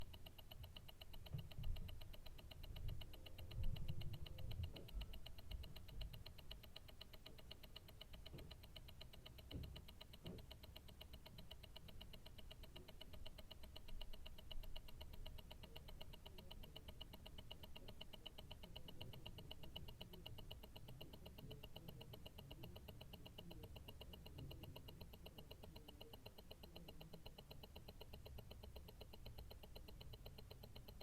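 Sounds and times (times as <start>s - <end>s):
watch ticking: 0.0s - 31.0s.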